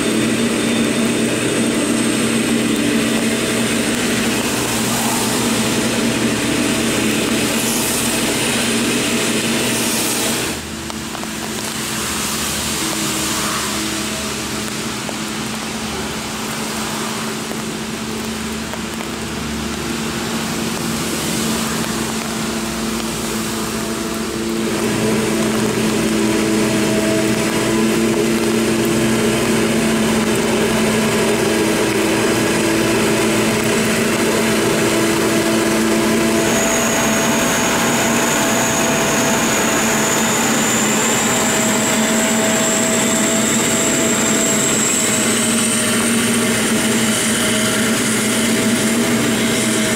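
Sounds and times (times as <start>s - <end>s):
harvester engine drone: 0.0s - 49.9s
high rising whine: 0.0s - 49.9s
tractor engine running: 0.0s - 49.9s.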